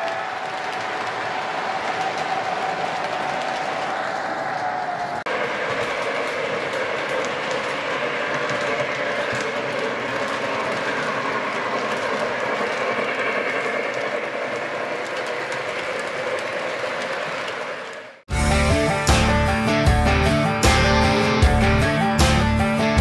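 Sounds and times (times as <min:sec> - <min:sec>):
model train rolling rumble: 0:00.0 - 0:23.0
wheels clicking over rail joints: 0:00.0 - 0:23.0.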